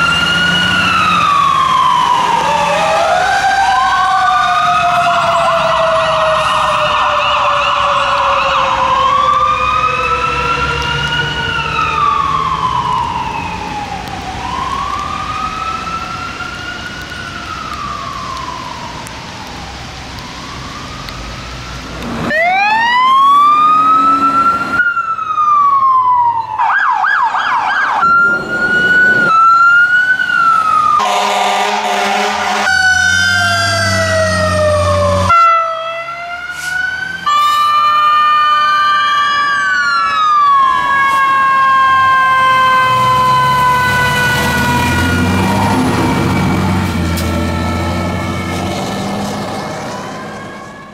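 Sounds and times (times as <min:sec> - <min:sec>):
fire truck sirens wailing: 0:00.0 - 0:50.9
low siren tone winding down: 0:00.0 - 0:50.9.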